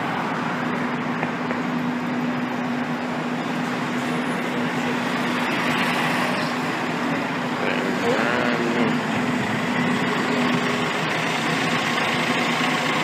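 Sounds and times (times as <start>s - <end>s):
diesel engine humming: 0.0s - 13.0s
street noise: 0.0s - 13.0s.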